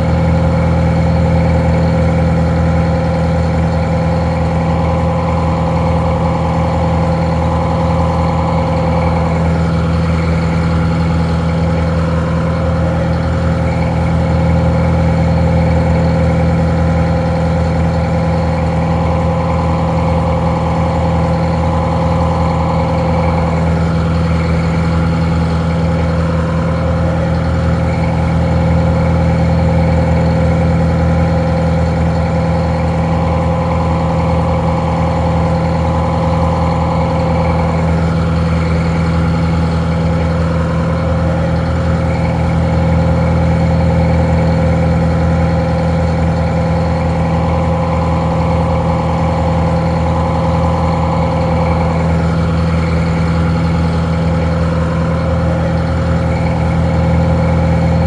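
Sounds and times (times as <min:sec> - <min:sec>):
diesel engine idling: 0:00.0 - 0:58.0
steady whine: 0:00.0 - 0:58.0.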